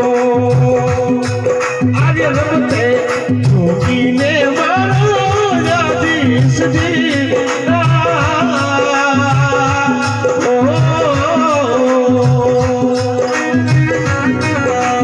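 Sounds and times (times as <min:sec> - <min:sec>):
man singing into a microphone: 0:00.0 - 0:15.0
repeating drum rhythm: 0:00.0 - 0:15.0.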